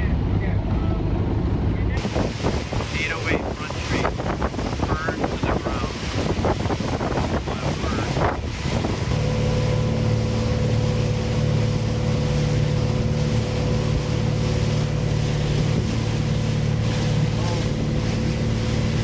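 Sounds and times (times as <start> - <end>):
boat engine droning: 0.0 - 19.0
wind buffeting microphone: 0.0 - 19.0.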